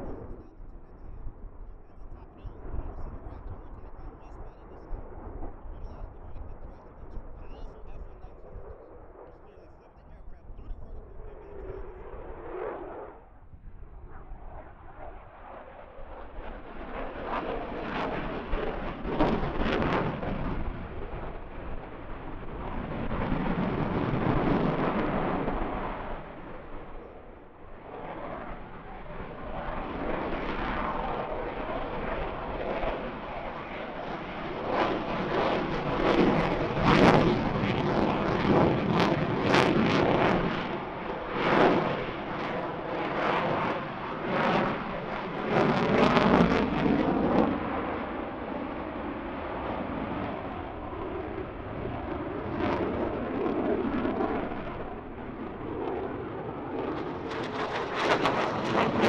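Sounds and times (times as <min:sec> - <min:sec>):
jet engines roaring overhead: 0:00.0 - 0:59.0.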